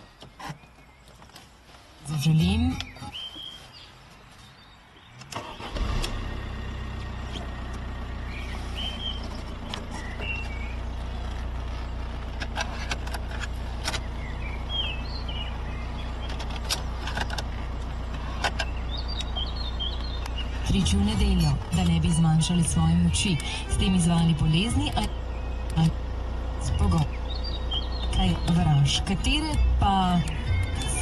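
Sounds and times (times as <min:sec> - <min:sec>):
car engine starting and idling: 0:00.0 - 0:31.0.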